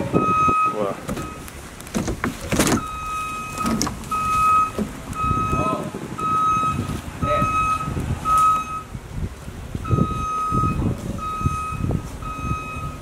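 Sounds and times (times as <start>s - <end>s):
truck reversing beeper: 0.0s - 1.5s, 2.8s - 8.9s, 9.9s - 13.0s
low rumbling noise: 0.0s - 13.0s.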